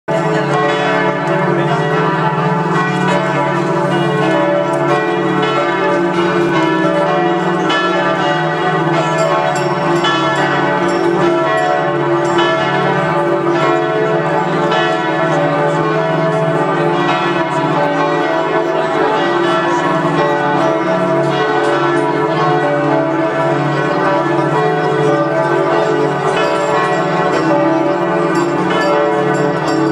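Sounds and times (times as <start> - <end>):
church bells pealing: 0.1 - 29.9.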